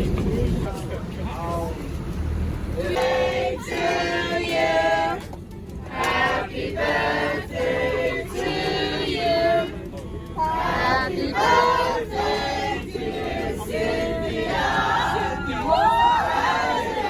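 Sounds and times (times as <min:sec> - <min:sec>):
steady low rumble: 0:00.0 - 0:17.0
group of voices singing: 0:02.7 - 0:17.0.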